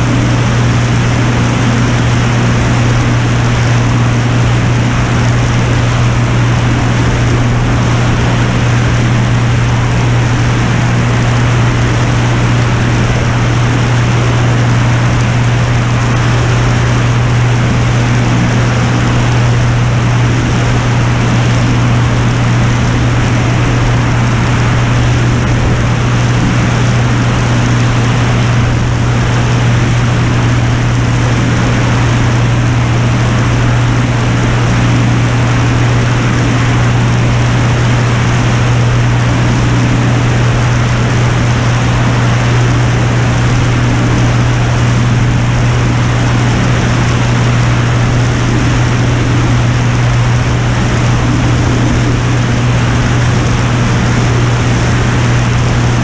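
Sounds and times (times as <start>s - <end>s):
airplane engine and propeller droning: 0.0s - 56.0s
rush of air: 0.0s - 56.0s.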